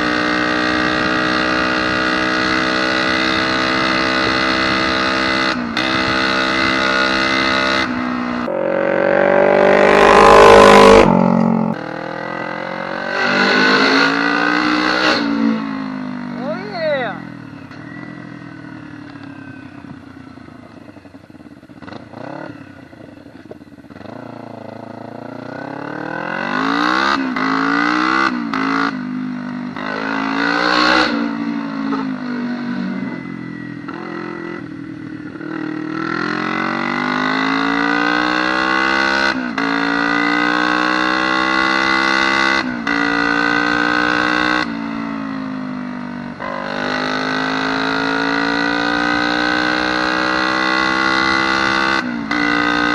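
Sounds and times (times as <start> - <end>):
dirt bike engine revving through gears: 0.0 - 17.1, 21.7 - 23.0, 23.8 - 52.9.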